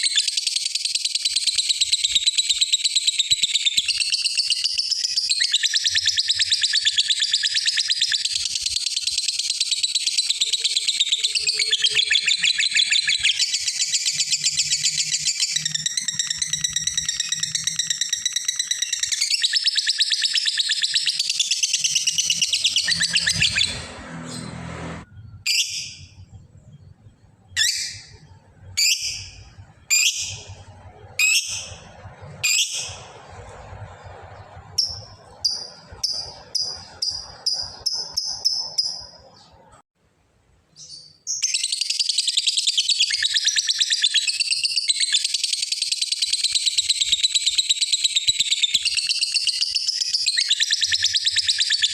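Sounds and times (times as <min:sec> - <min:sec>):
bird sharp chirps: 0:00.0 - 0:39.8, 0:40.7 - 0:51.9.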